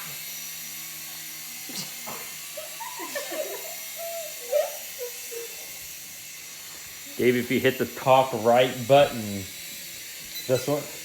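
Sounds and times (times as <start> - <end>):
toy helicopter motors buzzing: 0.0 - 11.0.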